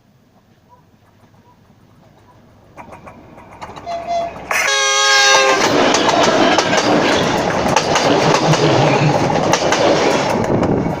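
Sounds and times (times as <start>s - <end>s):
train rolling past: 0.0s - 11.0s
wheels clacking over rail joints: 0.3s - 11.0s.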